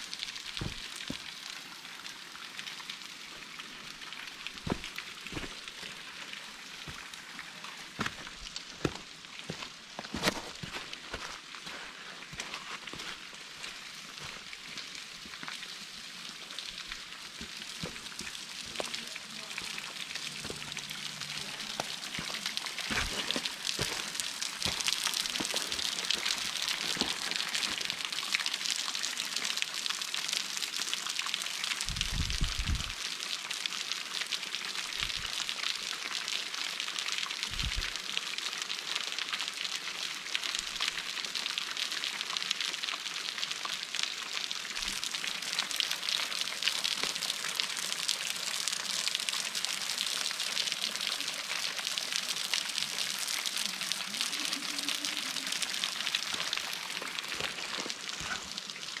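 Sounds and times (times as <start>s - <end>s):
water hissing with crackling: 0.0s - 59.0s.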